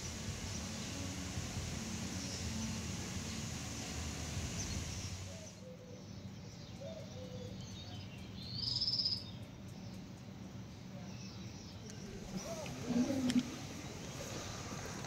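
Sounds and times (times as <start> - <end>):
background hiss: 0.0 - 15.0
small birds chirping: 0.0 - 15.0.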